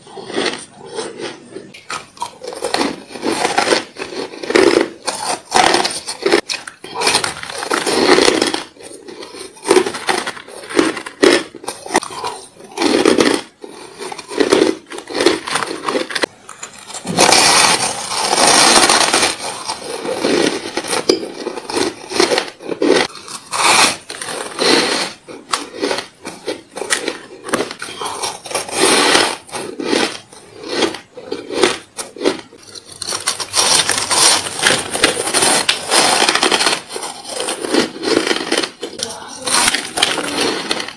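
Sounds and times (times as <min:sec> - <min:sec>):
chewing crushed ice: 0:00.0 - 0:40.9.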